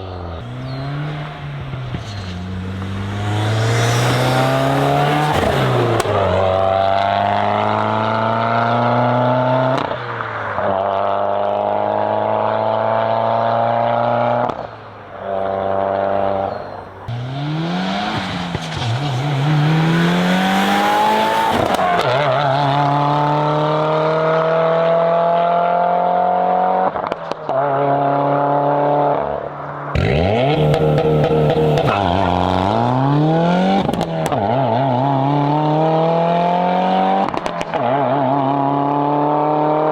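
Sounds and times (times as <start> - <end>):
car engine accelerating through gears: 0.0 - 14.7, 15.3 - 39.9.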